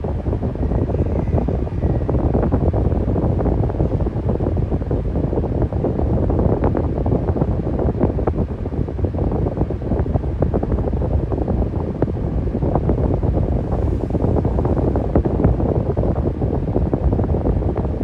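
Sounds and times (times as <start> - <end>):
electric fan rushing air: 0.0 - 18.0.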